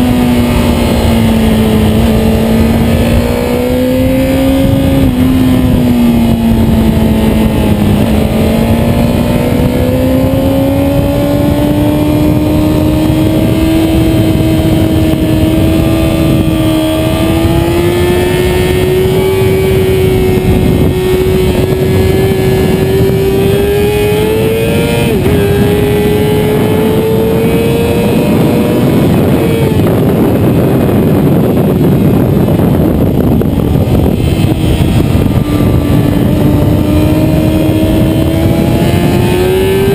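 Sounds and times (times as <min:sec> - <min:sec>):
motorcycle engine running hard: 0:00.0 - 0:39.9
wind and road noise: 0:00.0 - 0:39.9.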